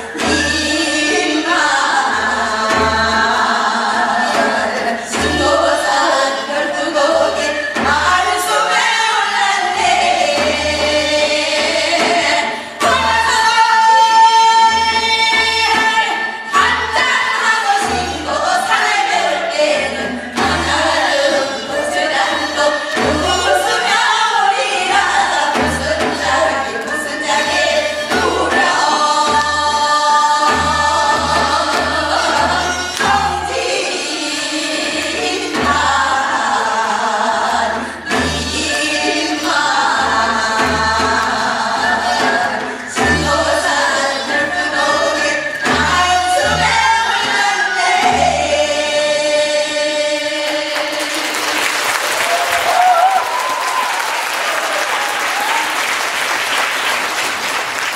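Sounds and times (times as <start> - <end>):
singers in chorus folk song: 0.0 - 55.8.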